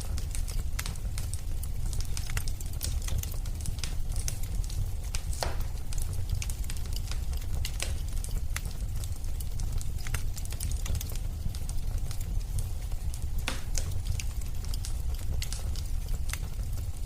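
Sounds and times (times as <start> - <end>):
burning logs crackling and popping: 0.0 - 17.0
fire flames rumbling: 0.0 - 17.0.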